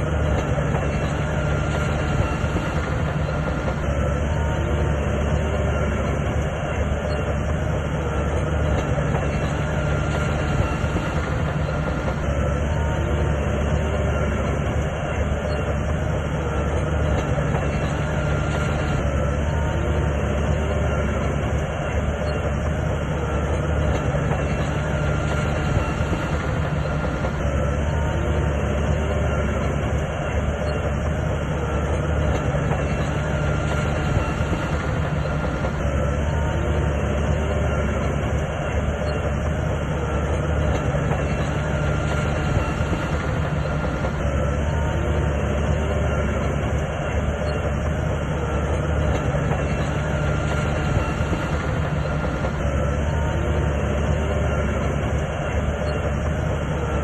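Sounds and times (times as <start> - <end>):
bulldozer diesel engine running: 0.0 - 57.0
steel tracks clattering: 0.0 - 57.0.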